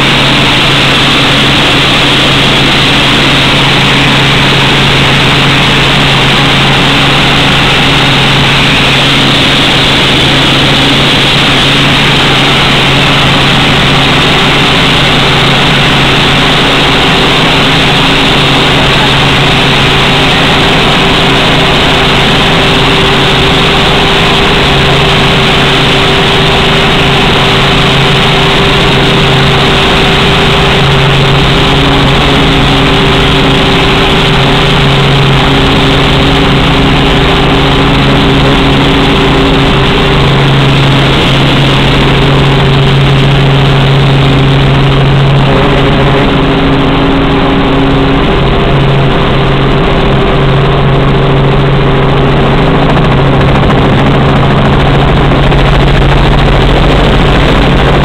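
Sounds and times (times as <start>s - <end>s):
constant low hum: 0.0s - 58.0s
helicopter engine and rotor: 0.0s - 58.0s.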